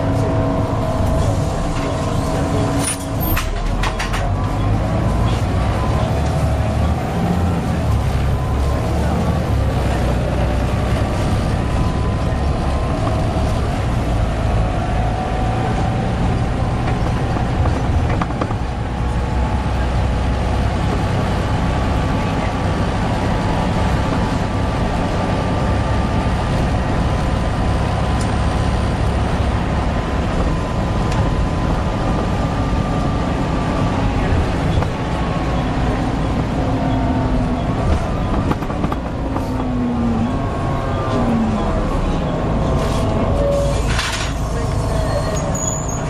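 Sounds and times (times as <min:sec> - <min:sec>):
diesel bus engine drone: 0:00.0 - 0:46.0.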